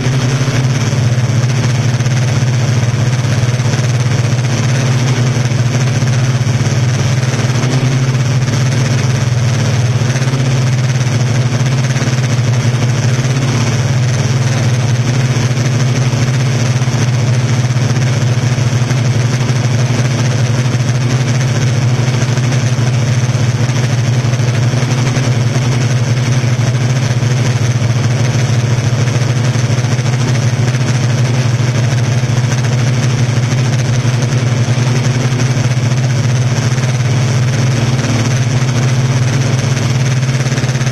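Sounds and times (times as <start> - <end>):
drone propellers humming: 0.0 - 40.9.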